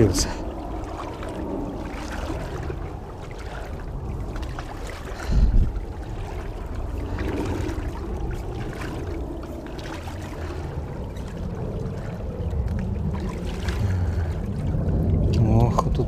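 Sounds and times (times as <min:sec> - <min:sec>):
water sloshing around waders: 0:00.0 - 0:16.0.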